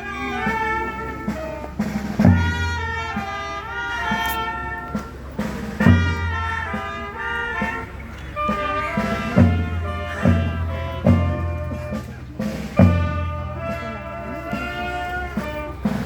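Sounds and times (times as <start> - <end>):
brass band playing slow tune: 0.0 - 16.0.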